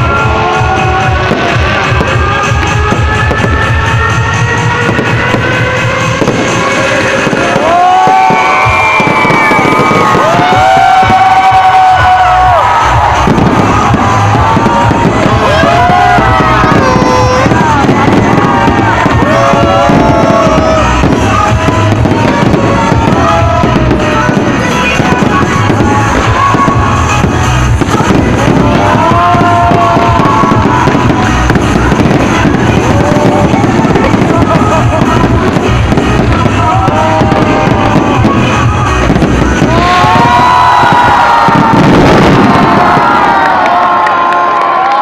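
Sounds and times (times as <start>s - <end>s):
fireworks bursting and crackling: 0.0s - 45.0s
music playing: 0.0s - 45.0s.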